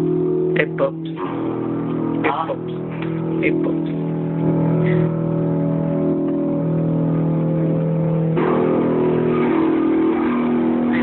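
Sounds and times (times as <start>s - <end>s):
electric guitar sustained notes: 0.0s - 11.0s.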